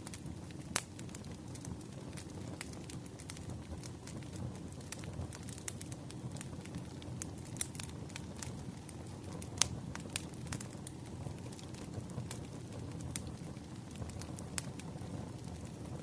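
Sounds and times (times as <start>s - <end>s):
firewood crackling and popping: 0.0s - 16.0s
rumble of fire flames: 0.0s - 16.0s.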